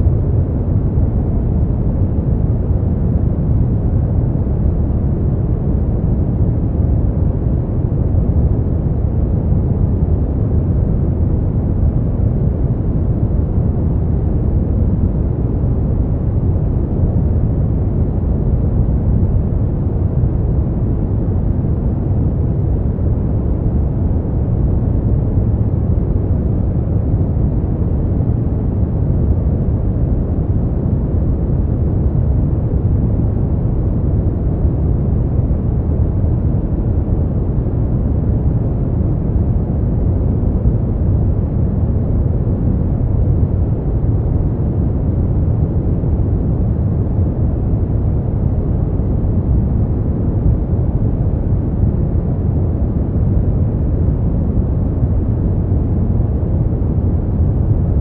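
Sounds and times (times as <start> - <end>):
deep rumbling noise: 0.0 - 58.0.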